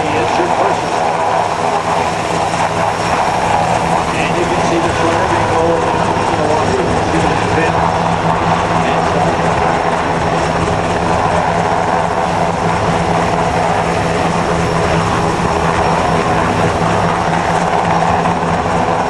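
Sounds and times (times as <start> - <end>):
helicopter rotor and engines: 0.0 - 19.0.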